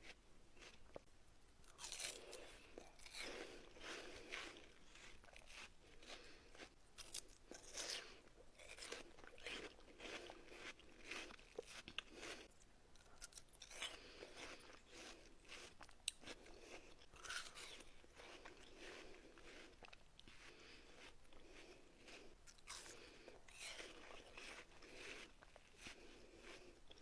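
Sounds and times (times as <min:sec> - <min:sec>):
watermelon being chewed: 0:00.0 - 0:27.0.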